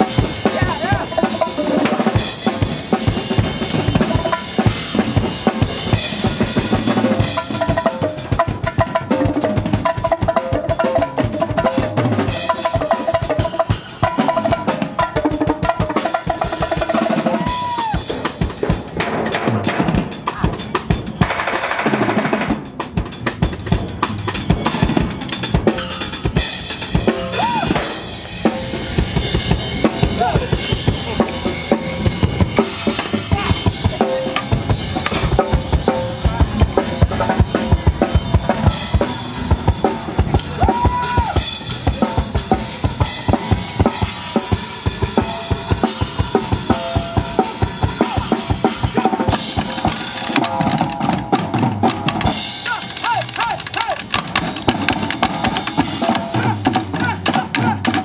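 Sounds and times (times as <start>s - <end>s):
percussion ensemble playing: 0.0s - 58.0s.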